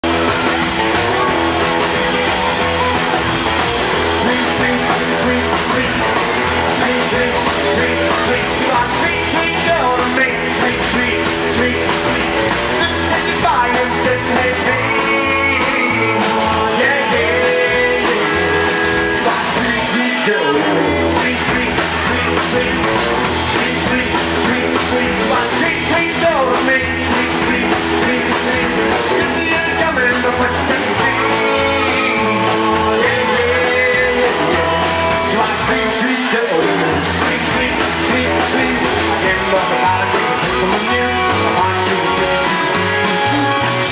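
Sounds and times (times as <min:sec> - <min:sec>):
live rock and roll band: 0:00.0 - 0:43.9.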